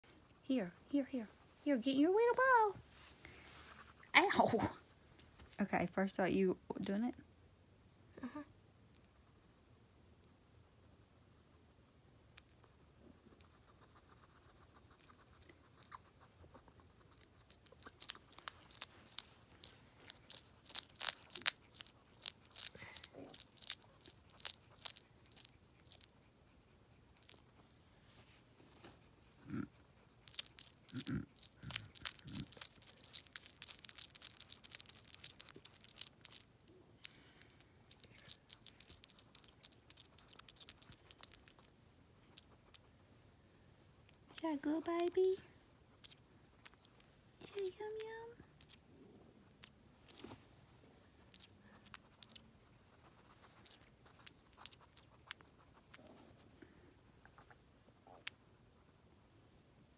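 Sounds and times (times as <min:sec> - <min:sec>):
hedgehog chewing: 0:00.0 - 0:06.0, 0:08.7 - 0:43.2, 0:43.8 - 0:59.4.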